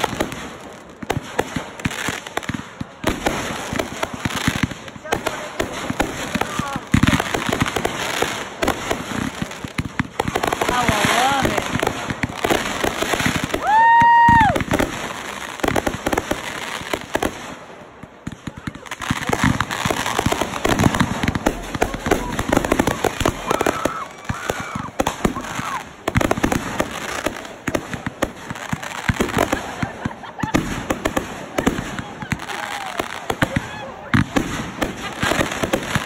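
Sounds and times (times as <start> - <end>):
crackling star bursts: 0.0 - 36.0
fireworks bangs: 0.0 - 36.0.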